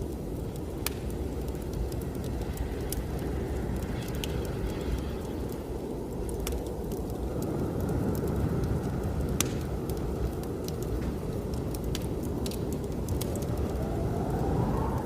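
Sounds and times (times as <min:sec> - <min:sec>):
blizzard wind rumble: 0:00.0 - 0:15.0
wood fire crackling and popping: 0:00.0 - 0:15.0.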